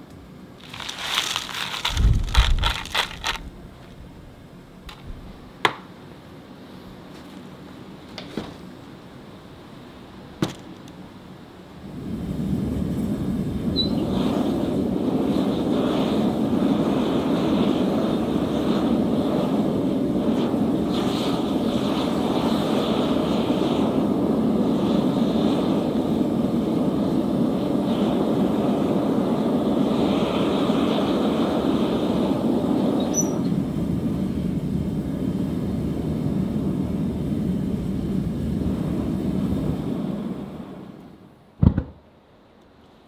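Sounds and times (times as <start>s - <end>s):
furnace burner roaring: 0.0s - 41.6s.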